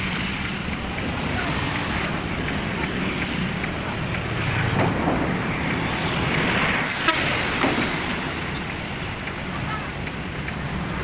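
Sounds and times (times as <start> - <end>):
heavy diesel machinery rumbling: 0.0 - 11.0.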